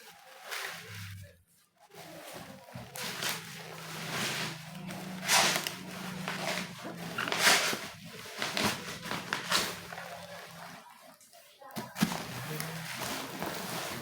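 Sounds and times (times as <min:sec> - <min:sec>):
cardboard rustling and scraping: 0:00.0 - 0:11.1, 0:11.7 - 0:14.0.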